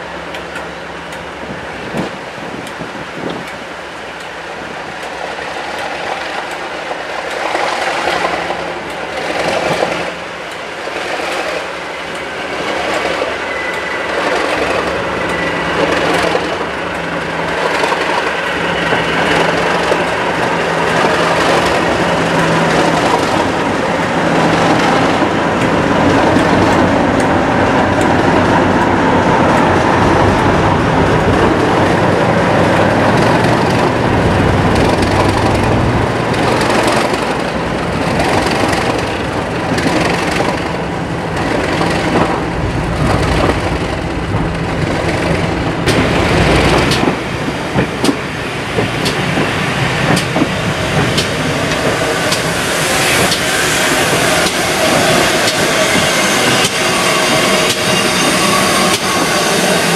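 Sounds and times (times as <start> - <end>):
diesel locomotive engine: 0.0 - 59.9.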